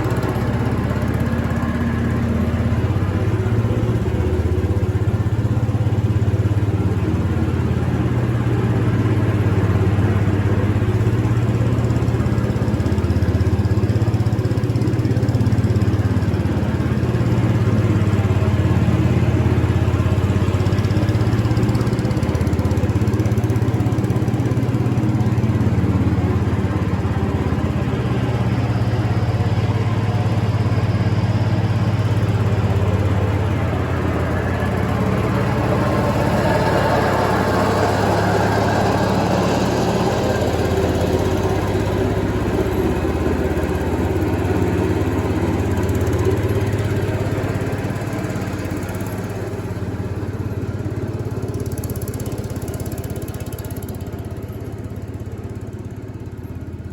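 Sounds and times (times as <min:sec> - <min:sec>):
garden tractor engine running: 0:00.0 - 0:56.9.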